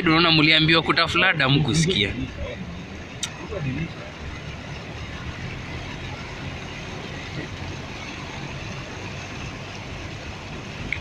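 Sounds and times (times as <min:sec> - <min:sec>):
vehicle engine running: 0:00.0 - 0:11.0
water wash from floodwater: 0:00.0 - 0:11.0.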